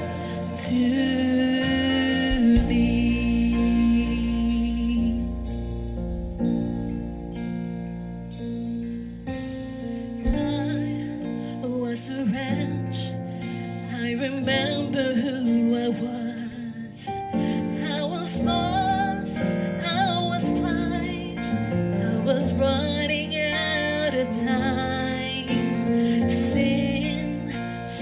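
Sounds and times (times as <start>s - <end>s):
woman singing: 0.0s - 5.8s, 10.2s - 28.0s
keyboard: 0.0s - 28.0s
worship band playing slow song: 0.0s - 28.0s.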